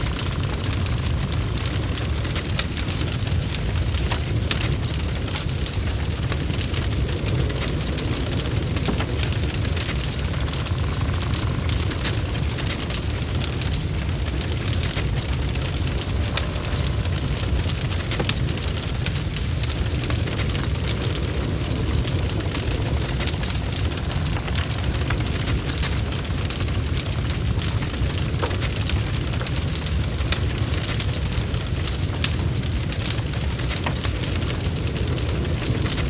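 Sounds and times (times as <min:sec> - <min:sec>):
bonfire crackling: 0:00.0 - 0:36.0.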